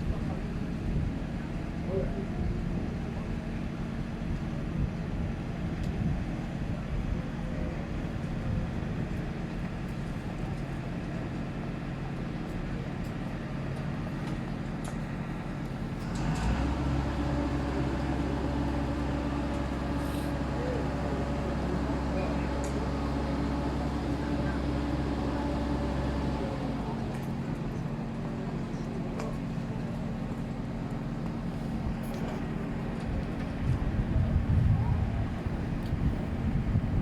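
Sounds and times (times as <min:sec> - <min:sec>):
large vehicle engine running: 0:00.0 - 0:37.0.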